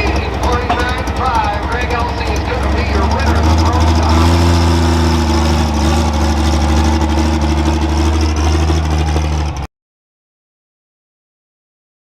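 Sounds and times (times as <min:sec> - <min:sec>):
diesel engine running: 0:00.0 - 0:09.7.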